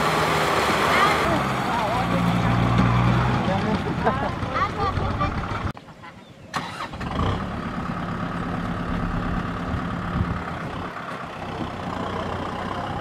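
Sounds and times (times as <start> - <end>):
tractor engine running: 0.0 - 5.8, 6.6 - 13.0.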